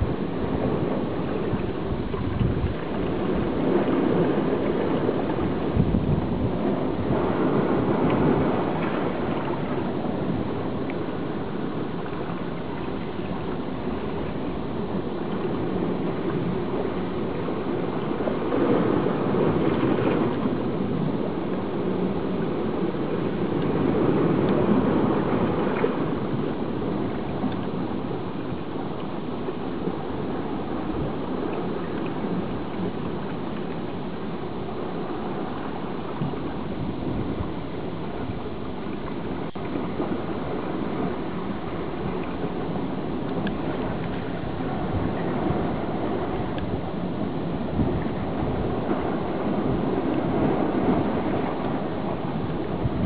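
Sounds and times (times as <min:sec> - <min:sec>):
sea surf rushing: 0:00.0 - 0:53.0.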